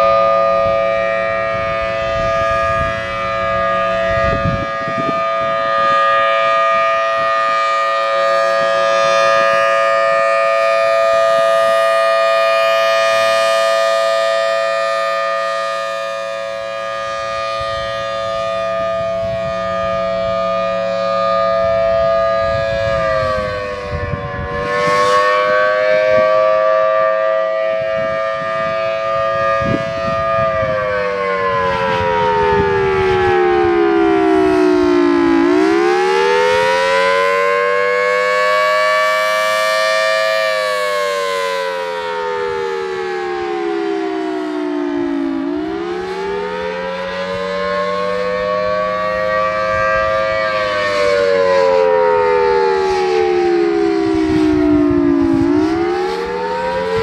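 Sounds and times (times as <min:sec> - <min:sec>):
civil defense siren two-note chord: 0:00.0 - 0:57.0.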